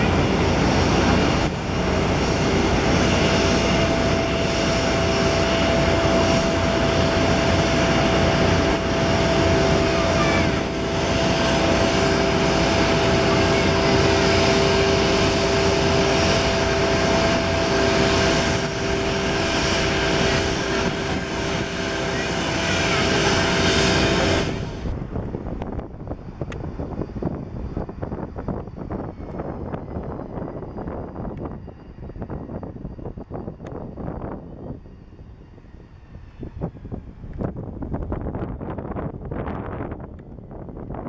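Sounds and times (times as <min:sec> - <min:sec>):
jet engine whining tones: 0:00.0 - 0:41.0
jet engines rushing: 0:00.0 - 0:41.0.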